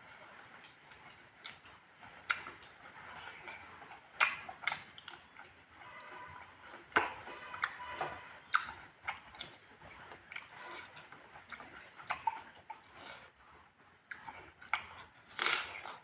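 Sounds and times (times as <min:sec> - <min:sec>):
person chewing with wet smacks: 0:00.0 - 0:16.0.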